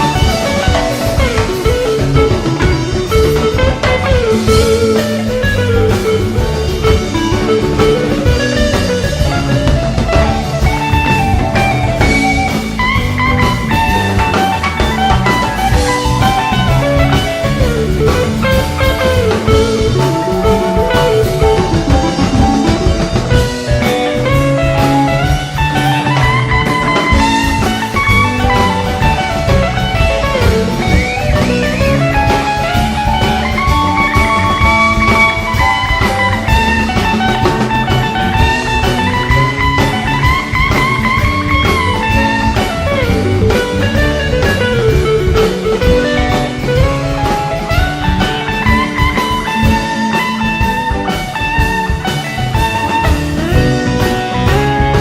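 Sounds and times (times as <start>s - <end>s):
bass guitar: 0.0s - 55.0s
drum kit: 0.0s - 55.0s
lead guitar melody: 0.0s - 55.0s.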